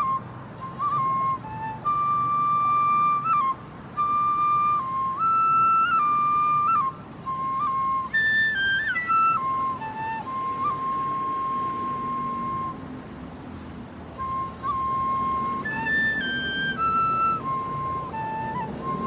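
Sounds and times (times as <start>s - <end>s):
bamboo flute melody: 0.0s - 13.2s, 14.0s - 19.0s.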